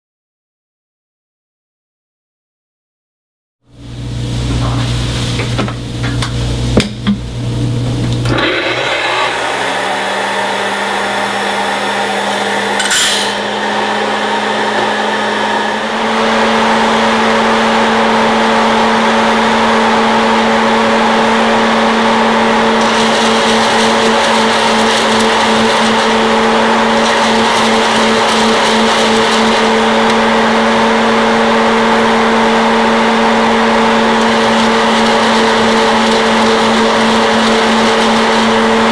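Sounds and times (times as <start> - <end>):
popcorn popper fan whirring: 4.6 - 38.9.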